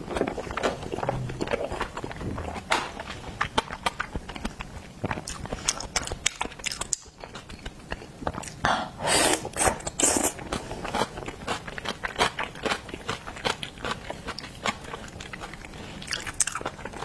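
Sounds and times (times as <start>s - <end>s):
person chewing and crunching: 0.0s - 8.6s, 9.3s - 17.0s.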